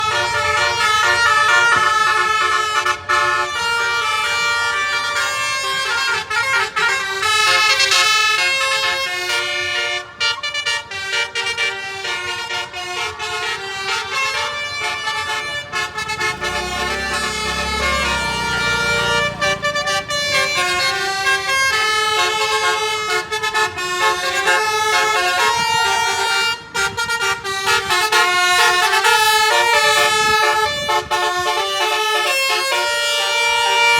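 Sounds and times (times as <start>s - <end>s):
musical air horn melody: 0.0s - 33.9s.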